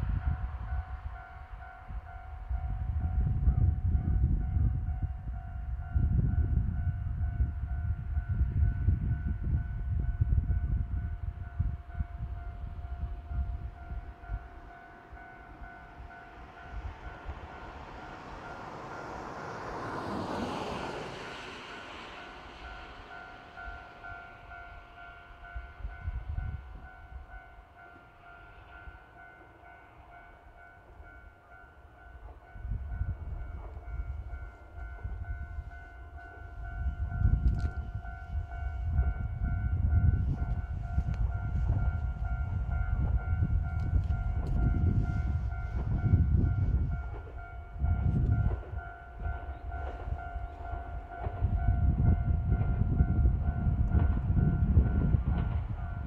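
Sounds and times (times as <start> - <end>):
train wheels rumbling on rails: 0.0 - 31.2, 31.8 - 56.0.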